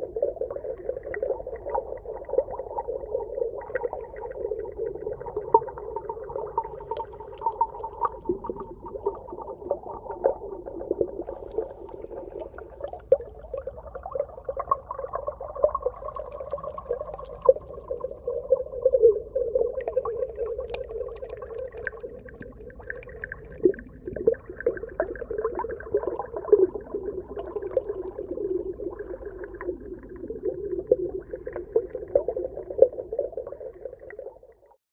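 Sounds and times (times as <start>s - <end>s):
muffled underwater bubbling: 0.0s - 34.8s.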